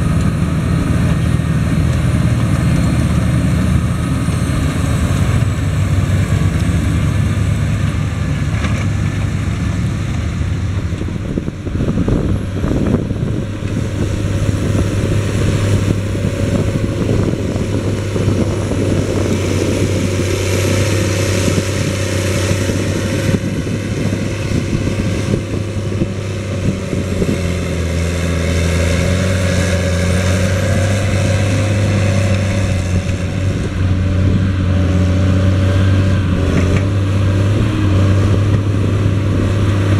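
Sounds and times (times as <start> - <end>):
tractor diesel engines droning: 0.0 - 39.9.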